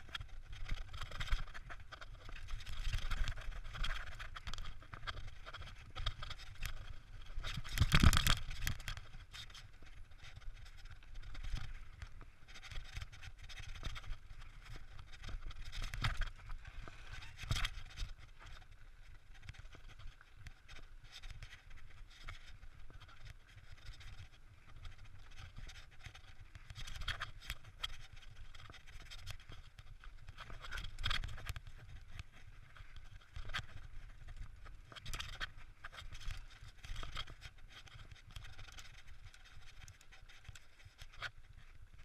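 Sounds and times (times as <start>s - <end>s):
wind rumbling on microphone: 0.0s - 42.0s.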